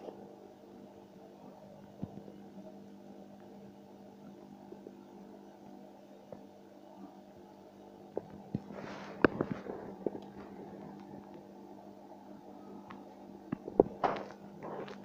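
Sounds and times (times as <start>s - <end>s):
aquarium pump motor hum: 0.0s - 15.0s.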